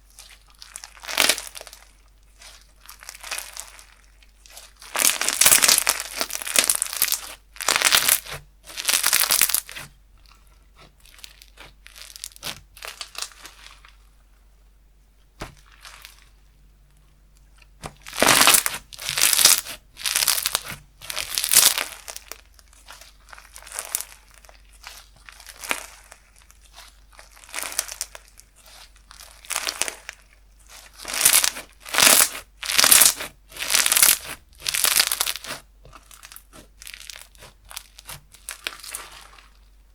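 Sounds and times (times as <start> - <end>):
slime squished by hand: 0.1 - 14.0, 17.6 - 39.7.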